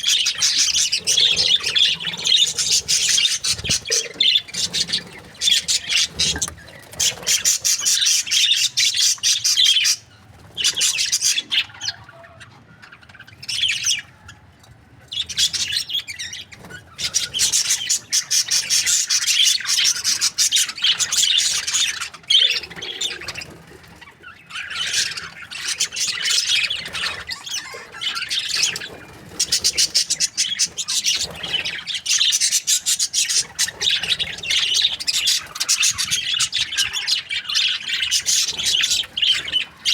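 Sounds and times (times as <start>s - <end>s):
budgerigars chirping: 0.0s - 14.4s, 15.0s - 39.9s.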